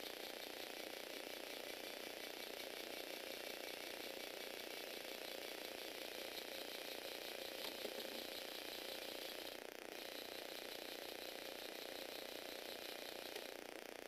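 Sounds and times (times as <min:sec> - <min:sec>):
plastic gears ticking whir: 0:00.0 - 0:14.0.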